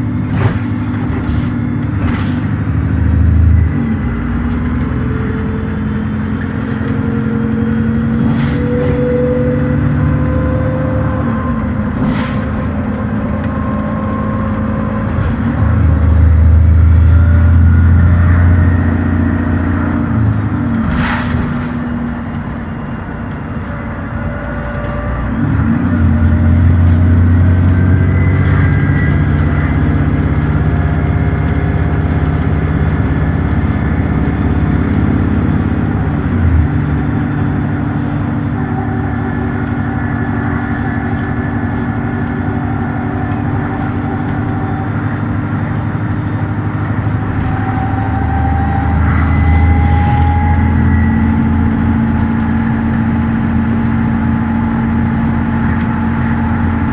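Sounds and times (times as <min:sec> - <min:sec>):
bus engine at full throttle: 0:00.0 - 0:56.9.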